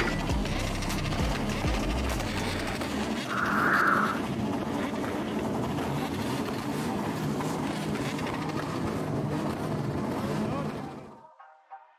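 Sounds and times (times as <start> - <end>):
car engines running: 0.0 - 11.2.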